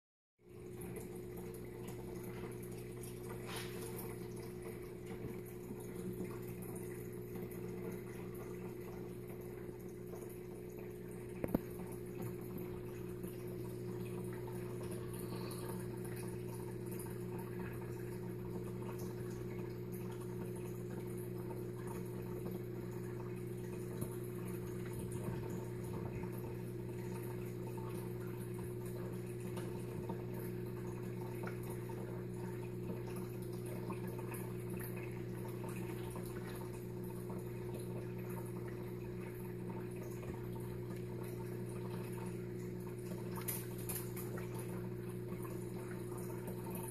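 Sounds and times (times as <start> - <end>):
faint water sounds: 0.4 - 46.9
steady low hum: 0.5 - 46.9.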